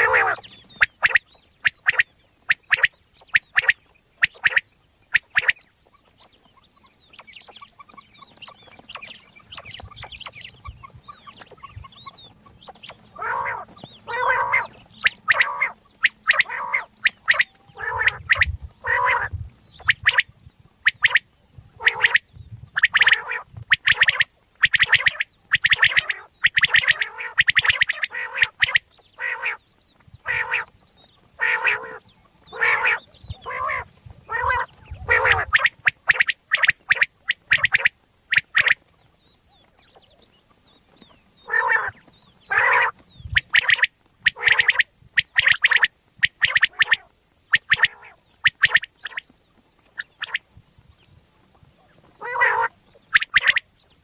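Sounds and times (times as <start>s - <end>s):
quail calling: 0.0s - 50.6s, 51.4s - 54.0s.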